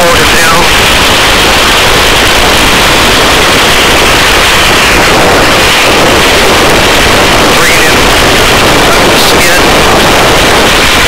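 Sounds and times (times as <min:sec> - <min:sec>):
helicopter rotor and engine noise: 0:00.0 - 0:11.0
static-like hiss: 0:00.0 - 0:11.0.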